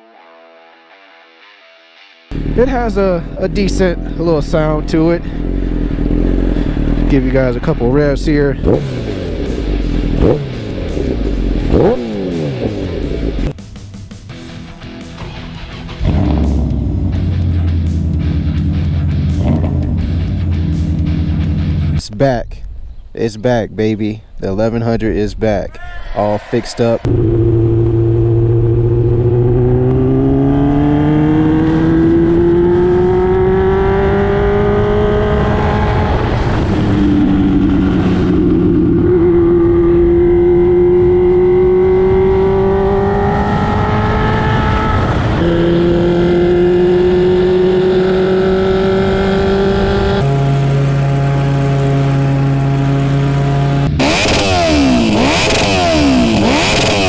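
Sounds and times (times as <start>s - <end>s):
motorcycle engine accelerating: 2.3s - 22.0s, 27.0s - 57.0s.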